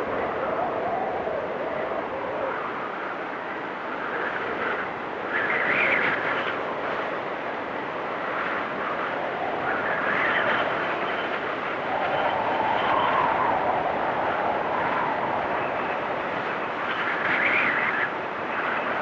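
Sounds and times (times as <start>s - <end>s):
blizzard wind gusting: 0.0s - 19.0s.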